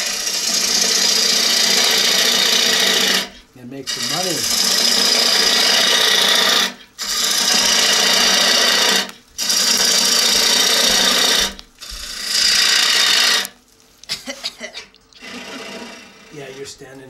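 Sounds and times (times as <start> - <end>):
lathe gouge cutting wood: 0.0 - 13.6, 15.2 - 16.6.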